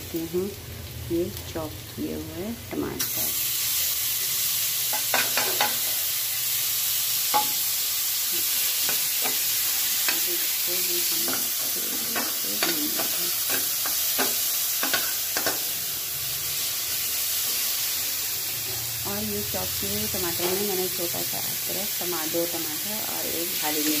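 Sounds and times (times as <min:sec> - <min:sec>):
tomatoes sizzling in oil: 0:00.0 - 0:24.0.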